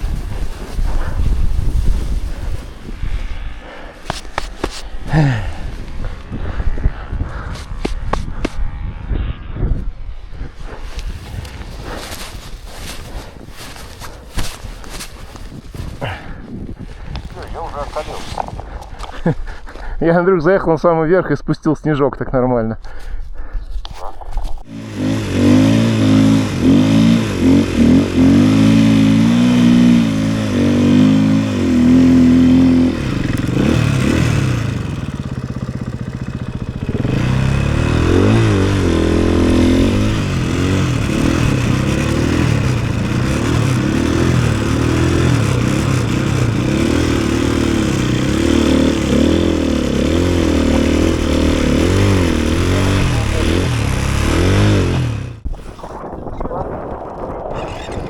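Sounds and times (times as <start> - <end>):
snowbike engine revving: 0.0 - 15.4, 24.6 - 55.5, 57.6 - 58.0.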